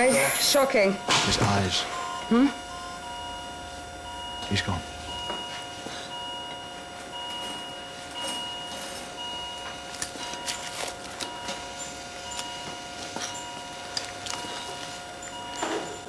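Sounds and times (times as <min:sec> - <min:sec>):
patient monitor alarm beeping: 0:00.0 - 0:16.0
steady monitor tone: 0:00.0 - 0:16.0.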